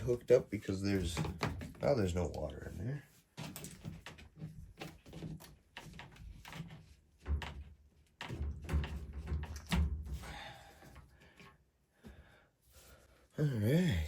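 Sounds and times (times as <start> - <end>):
handling knocks and clunks: 0.8 - 12.1.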